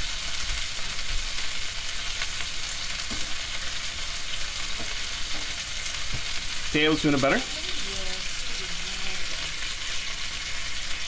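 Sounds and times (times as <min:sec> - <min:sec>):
steak sizzling in a frying pan: 0:00.0 - 0:11.0.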